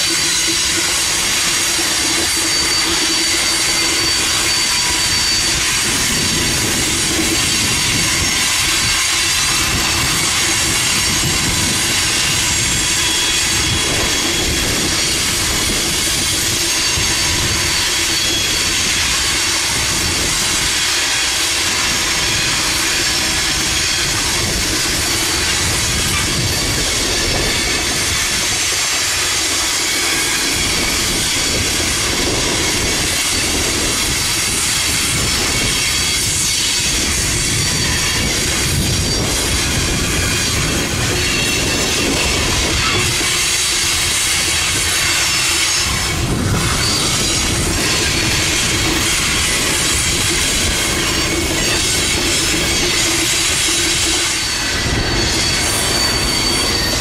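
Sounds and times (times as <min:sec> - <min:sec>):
freight train cars rolling: 0:00.0 - 0:57.0
wheels squealing on rail: 0:00.0 - 0:57.0.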